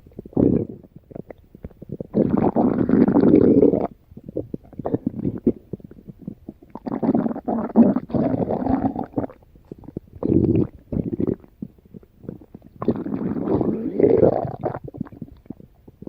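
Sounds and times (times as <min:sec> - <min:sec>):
stomach growling and gurgling: 0:00.0 - 0:16.0.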